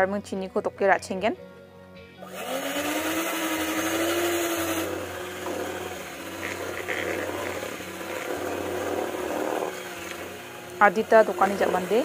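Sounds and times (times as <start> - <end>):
electric hand mixer running: 2.2 - 12.0.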